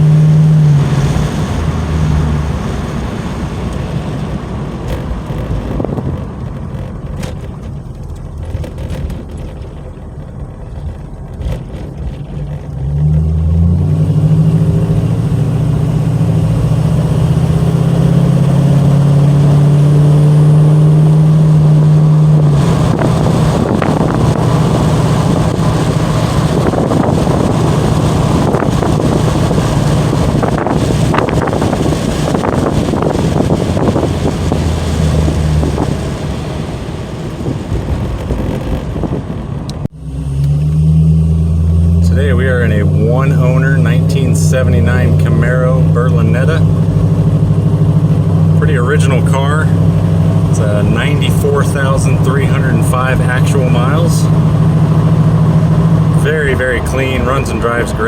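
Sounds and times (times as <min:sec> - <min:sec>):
car engine humming: 0:00.0 - 0:58.0
tyre and wind noise: 0:00.0 - 0:58.0.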